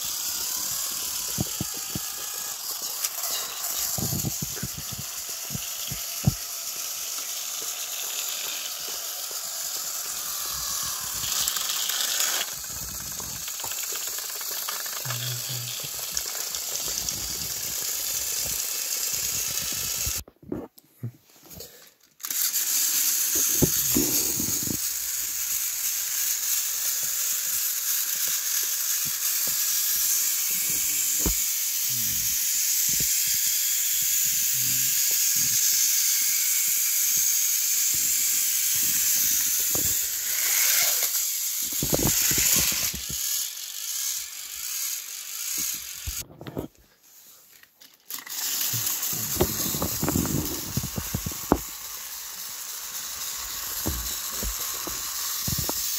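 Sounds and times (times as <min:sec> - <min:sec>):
toy train motors whirring: 0:00.0 - 0:20.7, 0:21.3 - 0:55.9.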